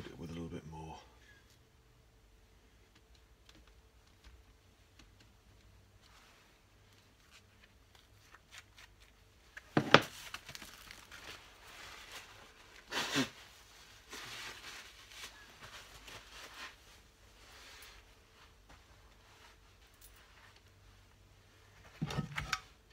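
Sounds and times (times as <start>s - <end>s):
rustling: 2.5s - 22.9s.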